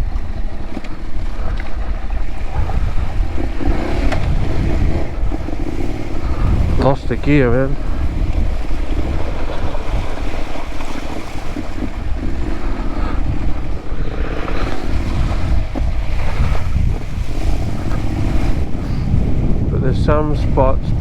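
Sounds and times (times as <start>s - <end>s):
motorcycle engine running: 0.0s - 19.7s
wheels splashing through water: 0.0s - 19.8s
wind buffeting microphone: 0.0s - 21.0s.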